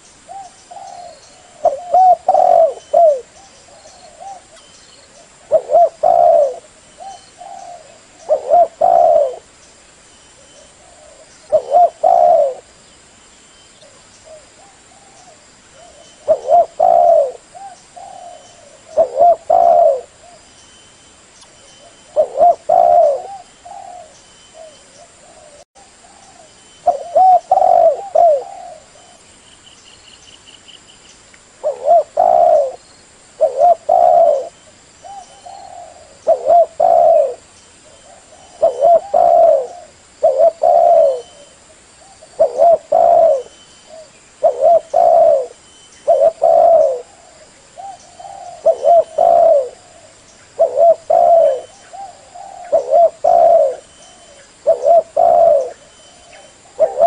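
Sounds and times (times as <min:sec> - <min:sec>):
dove cooing: 0:00.0 - 0:09.5, 0:10.4 - 0:12.7, 0:13.8 - 0:20.4, 0:21.8 - 0:29.3, 0:31.6 - 0:32.8, 0:33.4 - 0:57.0.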